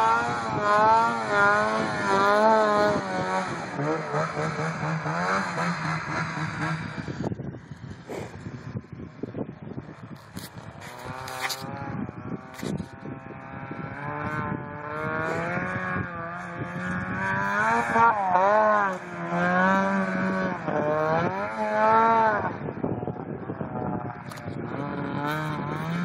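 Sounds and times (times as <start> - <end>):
snowmobile engine revving: 0.0 - 8.8, 10.0 - 22.6, 24.0 - 26.0.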